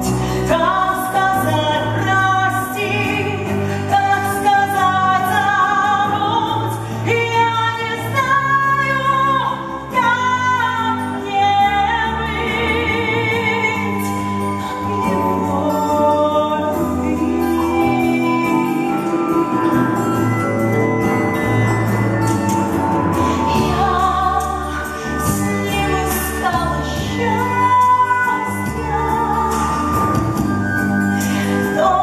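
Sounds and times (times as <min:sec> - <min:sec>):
woman singing: 0:00.0 - 0:20.8, 0:22.4 - 0:32.0
live band accompaniment: 0:00.0 - 0:32.0.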